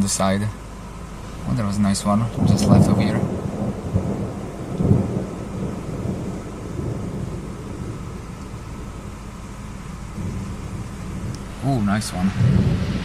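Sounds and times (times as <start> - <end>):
thunder rumble: 0.8 - 13.0.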